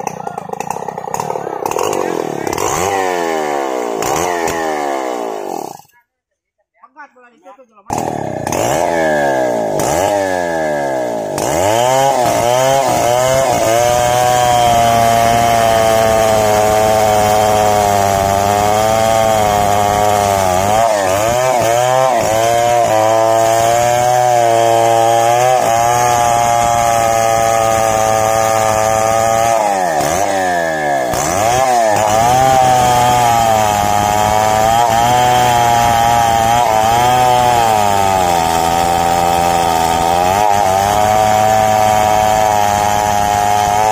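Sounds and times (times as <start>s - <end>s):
chainsaw cutting through tree trunk: 0.0s - 6.0s, 7.9s - 43.9s.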